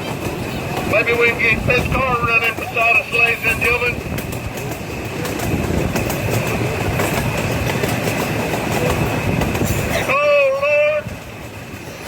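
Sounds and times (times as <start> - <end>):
train wheels clacking over rail joints: 0.0 - 12.0.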